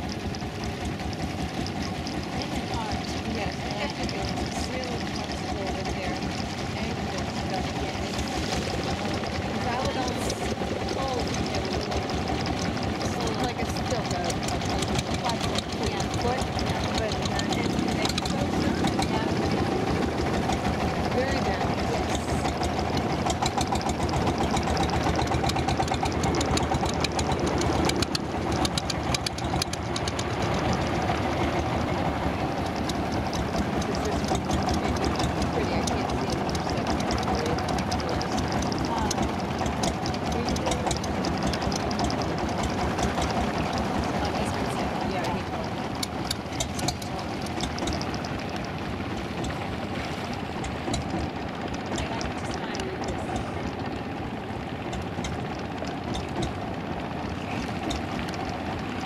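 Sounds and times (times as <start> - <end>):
boat engine chugging: 0.0 - 59.0
continuous rushing noise: 0.0 - 59.0.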